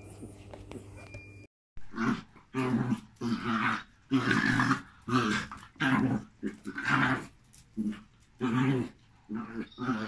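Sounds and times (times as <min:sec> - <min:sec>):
dog growling: 0:01.9 - 0:10.0.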